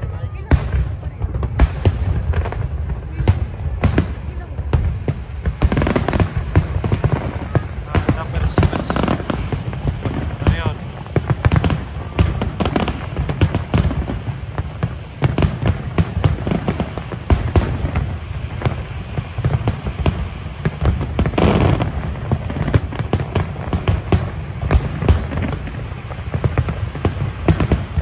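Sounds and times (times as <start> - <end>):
firework bangs and crackles: 0.0 - 28.0.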